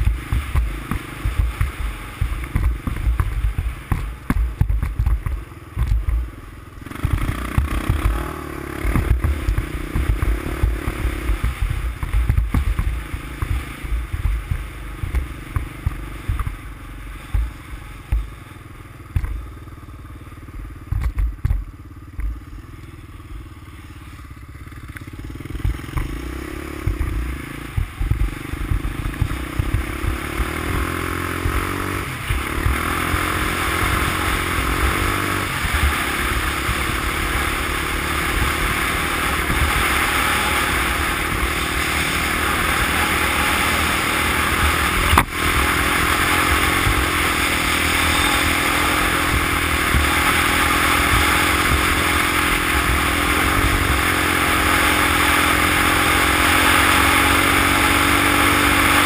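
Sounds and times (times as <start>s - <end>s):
atv engine accelerating: 0.0s - 59.0s
wind and tyre noise: 0.0s - 59.0s.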